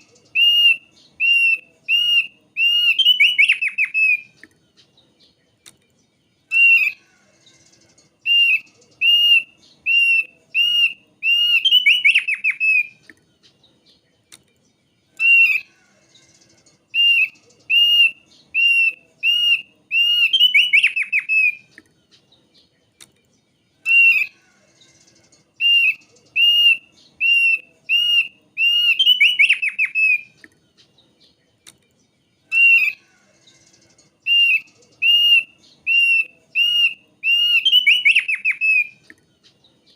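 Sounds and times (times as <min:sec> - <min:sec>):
bird whistled song: 0:00.0 - 0:39.9.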